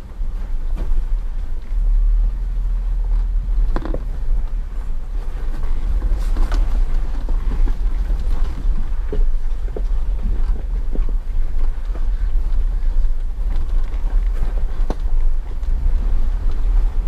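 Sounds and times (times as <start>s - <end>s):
knocks and rattles from rough ground: 0.0s - 1.8s, 2.9s - 17.0s
off-road vehicle low rumble: 0.0s - 17.0s.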